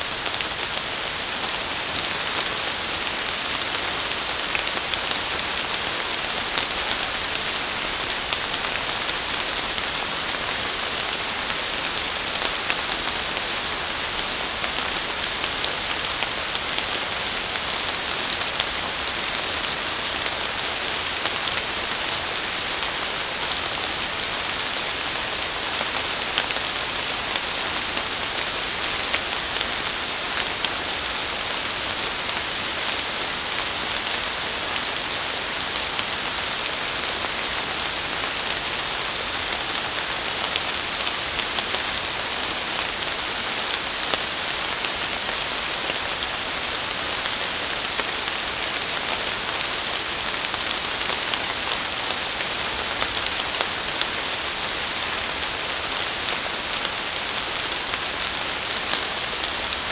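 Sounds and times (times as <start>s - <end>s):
rain on foliage: 0.0s - 59.9s
raindrops ticking on leaves: 0.0s - 59.9s.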